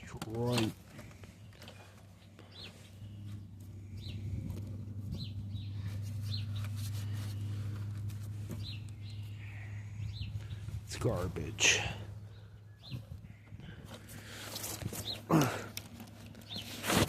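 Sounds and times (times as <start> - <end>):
steady low hum: 0.0 - 16.9
bird chirping: 0.9 - 14.4, 16.1 - 16.8.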